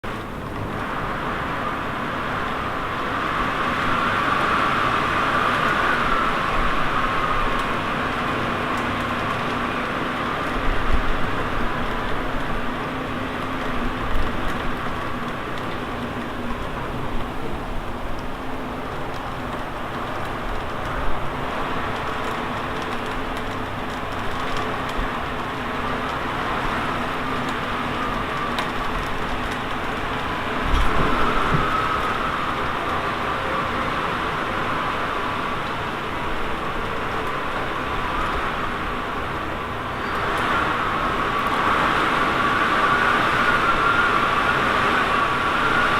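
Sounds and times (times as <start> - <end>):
wind rushing roar: 0.0 - 45.9.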